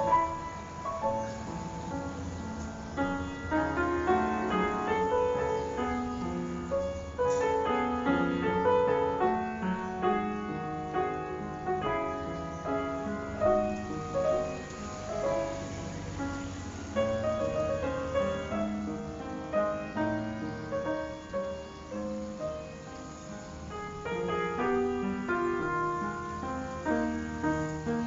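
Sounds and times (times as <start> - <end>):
background piano music: 0.0 - 28.0.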